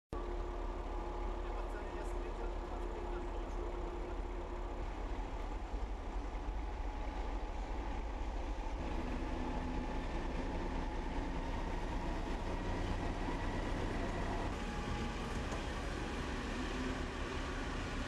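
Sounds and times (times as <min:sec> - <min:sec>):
diesel locomotives passing: 0:00.2 - 0:18.0.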